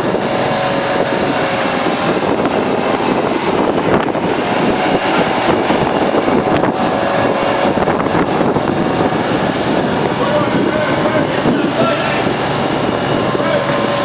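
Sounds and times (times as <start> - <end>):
loud engine noise: 0.0 - 14.0
wind on microphone: 0.0 - 14.0.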